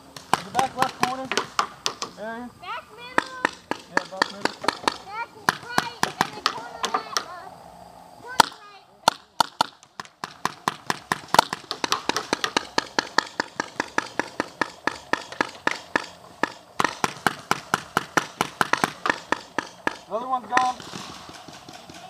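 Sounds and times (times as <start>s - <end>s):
paintball marker firing: 0.1s - 2.2s, 3.1s - 7.3s, 8.4s - 22.0s.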